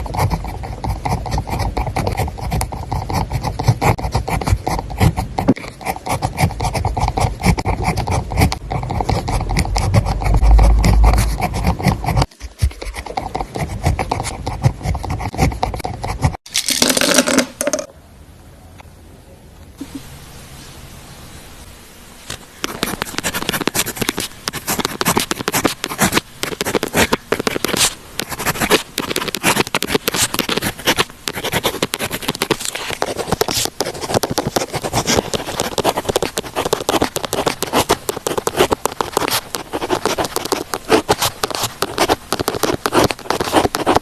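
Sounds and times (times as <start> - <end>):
pen scratching on paper: 0.0 - 16.4, 22.6 - 44.0
faint room noise: 0.0 - 44.0.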